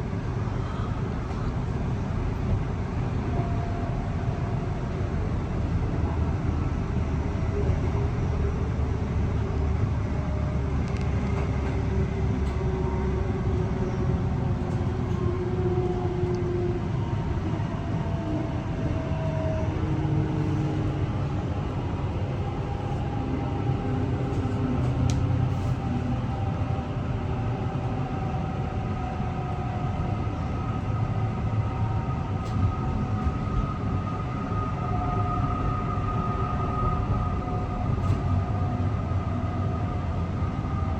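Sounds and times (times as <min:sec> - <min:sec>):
electric train rumbling: 0:00.0 - 0:40.9.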